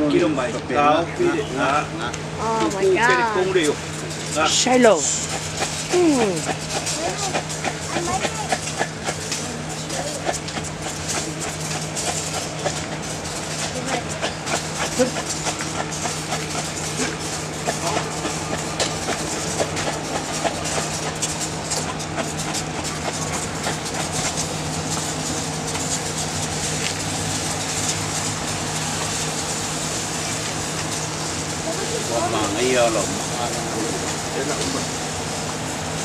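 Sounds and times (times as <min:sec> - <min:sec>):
hot stones sizzling and crackling: 0:00.0 - 0:36.0
steady low hum: 0:00.0 - 0:36.0
oil flaring into flames: 0:01.8 - 0:36.0.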